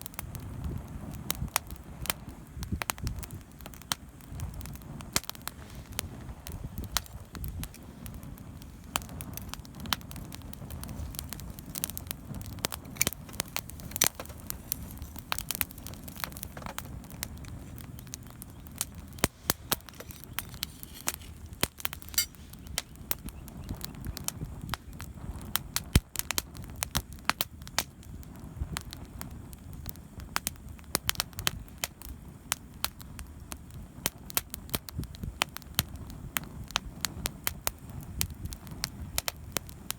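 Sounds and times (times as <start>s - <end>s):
campfire crackles and pops: 0.0s - 39.9s
low flame rumble: 0.0s - 39.9s.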